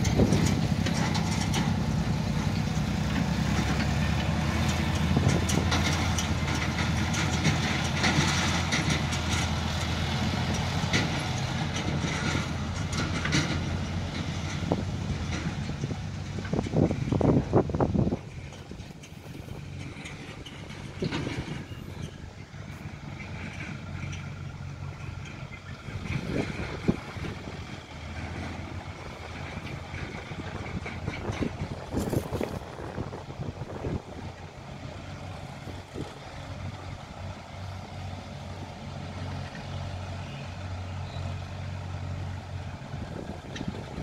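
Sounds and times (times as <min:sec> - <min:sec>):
distant diesel engines running: 0:00.0 - 0:44.0.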